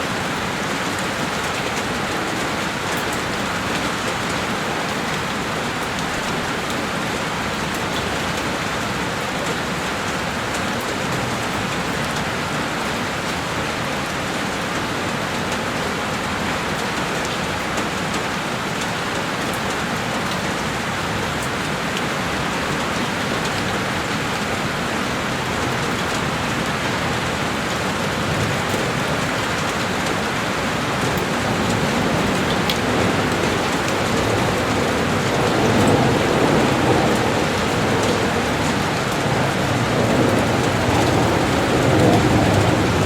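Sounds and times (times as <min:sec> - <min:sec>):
heavy rain on a window: 0:00.0 - 0:43.0.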